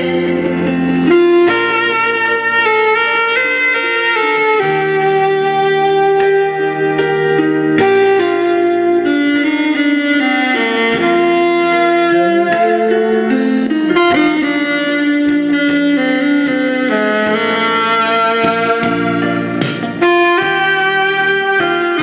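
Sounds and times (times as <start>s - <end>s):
alto saxophone melody: 0.0s - 22.0s
guitar accompaniment: 0.0s - 22.0s.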